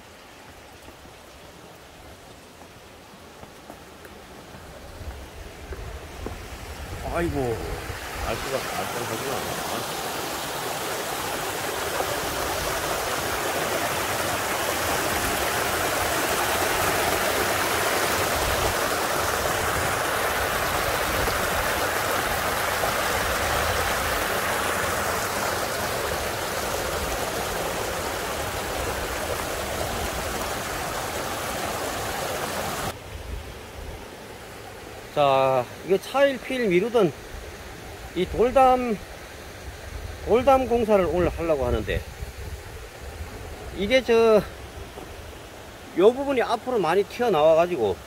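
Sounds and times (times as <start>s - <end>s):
water rushing over rocks: 0.0s - 48.0s.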